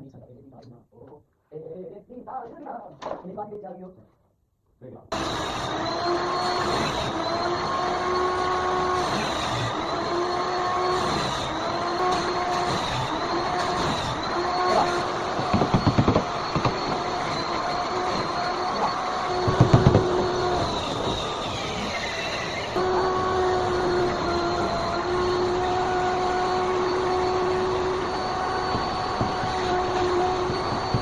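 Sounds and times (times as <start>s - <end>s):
machine whine: 5.1s - 31.0s.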